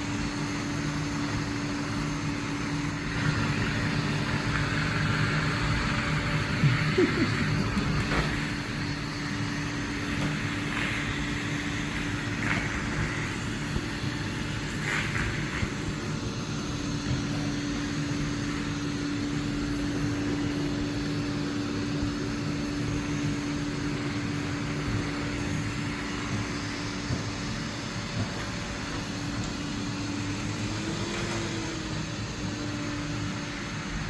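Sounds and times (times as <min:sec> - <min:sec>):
robot vacuum motor whirring: 0:00.0 - 0:34.0.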